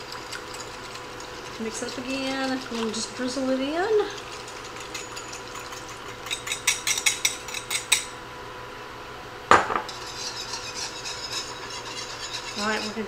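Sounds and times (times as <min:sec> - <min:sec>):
whisk swishing through broth: 0:00.0 - 0:07.8, 0:09.9 - 0:13.0
whisk clinking against glass bowl: 0:00.0 - 0:08.1, 0:09.9 - 0:13.0.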